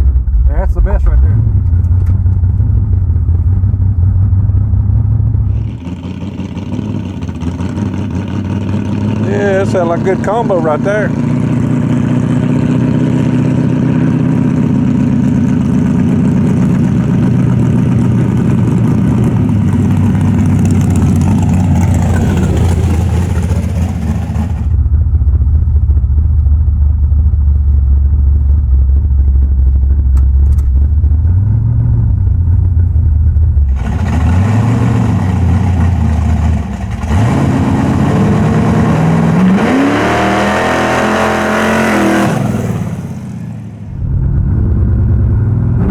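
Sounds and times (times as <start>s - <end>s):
car engine accelerating: 0.0s - 27.5s, 28.4s - 45.9s.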